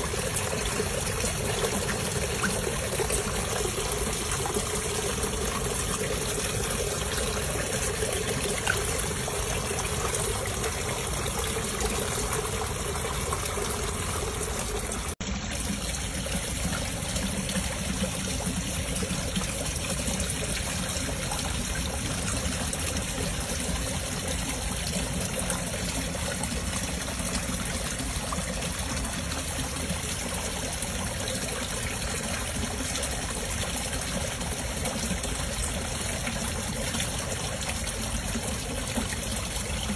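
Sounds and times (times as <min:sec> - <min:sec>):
trickling running water: 0:00.0 - 0:39.9.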